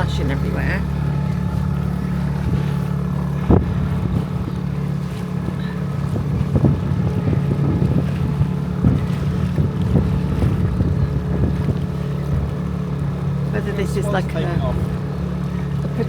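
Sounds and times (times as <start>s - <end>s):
small boat motor running: 0.0s - 16.0s
wind on microphone: 0.0s - 16.0s.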